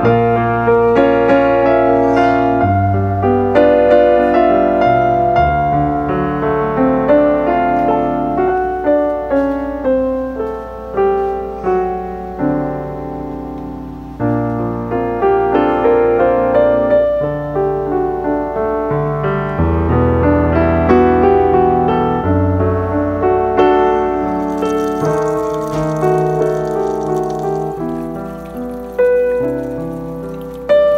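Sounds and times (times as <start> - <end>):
solo piano music: 0.0 - 30.9.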